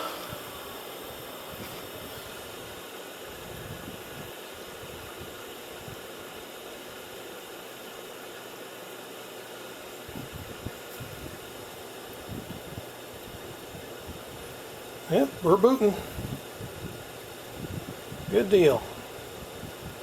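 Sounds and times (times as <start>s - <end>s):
computer fans hissing: 0.0s - 20.0s.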